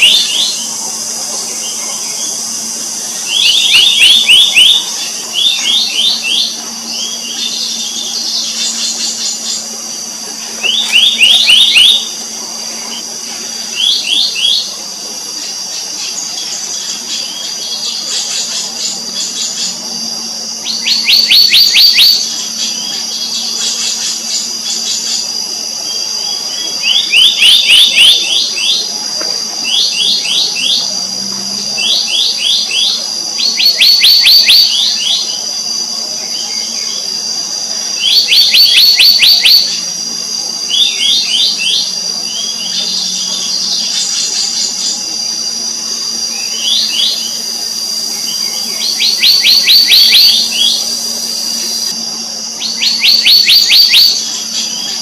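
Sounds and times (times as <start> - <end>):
faint low hum: 0.0 - 55.0
steady high-pitched whine: 0.0 - 55.0.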